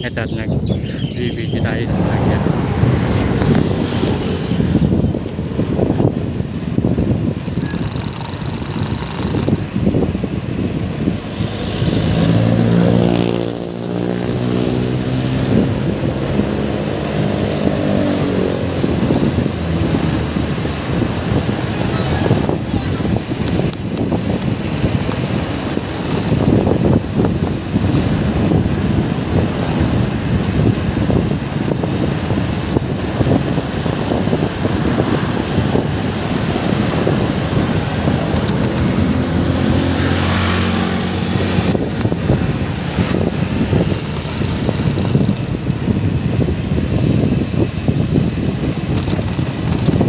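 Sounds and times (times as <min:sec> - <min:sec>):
road traffic noise: 0:00.0 - 0:50.0
wind buffeting microphone: 0:00.0 - 0:50.0
motor vehicle passing: 0:01.7 - 0:50.0.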